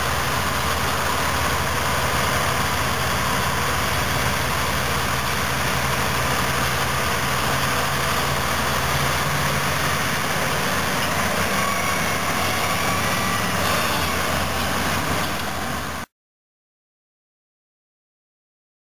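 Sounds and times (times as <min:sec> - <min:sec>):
heavy diesel engines under load: 0:00.0 - 0:16.1.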